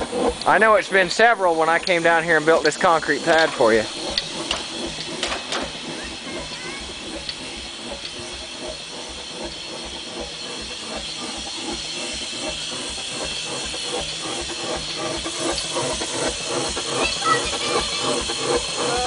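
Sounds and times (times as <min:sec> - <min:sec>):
steam engine exhaust beat: 0:00.0 - 0:19.0
steam hissing: 0:00.0 - 0:19.0.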